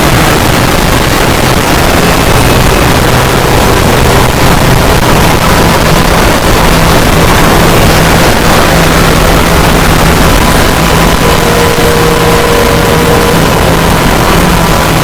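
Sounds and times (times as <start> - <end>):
harsh distorted noise: 0.0 - 15.0
low hum: 0.0 - 15.0.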